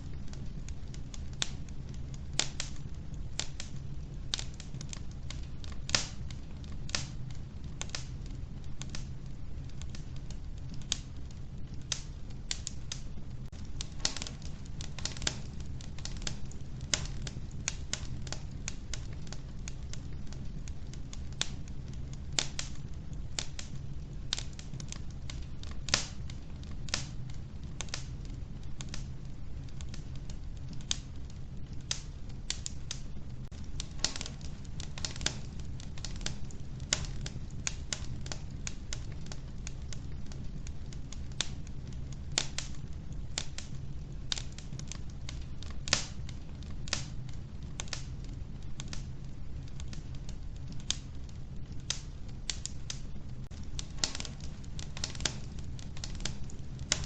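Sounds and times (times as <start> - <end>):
logs crackling in a stove: 0.0 - 57.0
steady low hum: 0.0 - 57.0.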